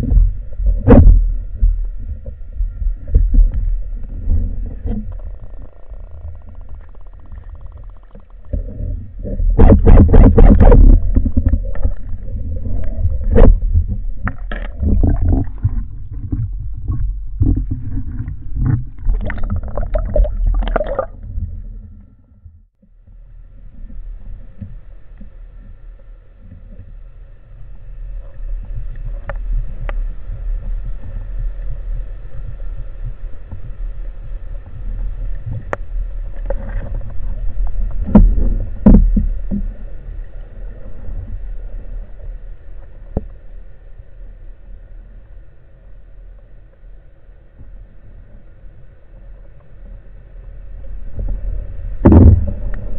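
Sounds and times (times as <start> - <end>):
muffled knocks and scraping underwater: 0.0 - 43.7, 46.2 - 52.9
steady underwater hum: 0.0 - 52.9.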